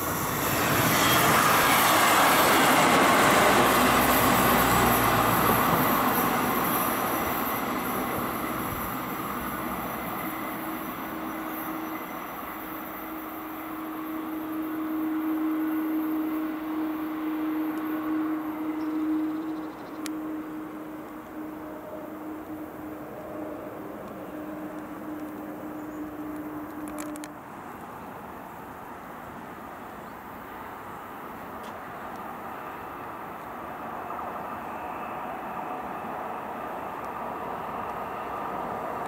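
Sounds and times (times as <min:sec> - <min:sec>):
train running past on rails: 0:00.0 - 0:39.0.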